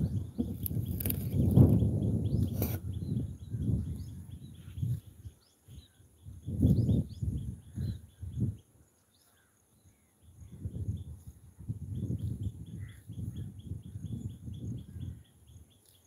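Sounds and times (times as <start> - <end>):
wind buffeting microphone: 0.0 - 8.8, 10.2 - 15.8
small birds chirping: 0.0 - 16.0.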